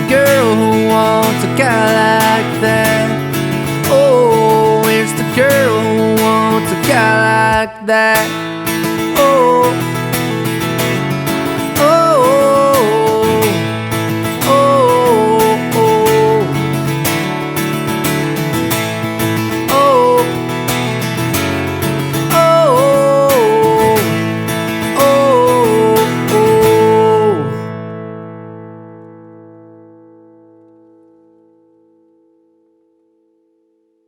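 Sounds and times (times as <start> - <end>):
acoustic guitar strumming: 0.0 - 34.0
sliding guitar melody: 0.0 - 34.0.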